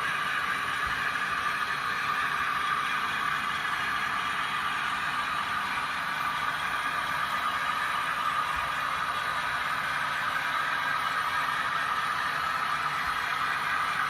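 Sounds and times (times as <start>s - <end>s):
model train motor whirring: 0.0s - 14.0s
wheels rattling on rails: 0.0s - 14.0s.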